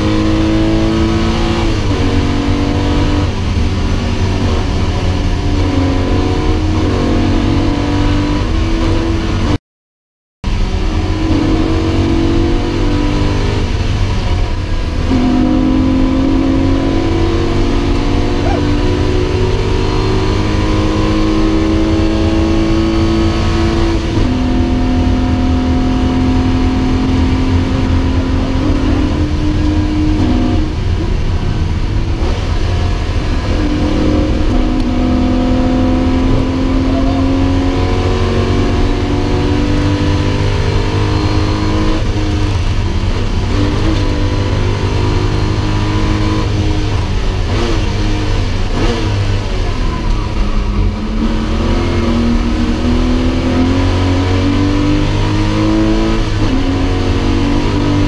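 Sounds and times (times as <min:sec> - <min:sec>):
car engine under hard driving: 0:00.0 - 0:09.6, 0:10.4 - 0:58.0.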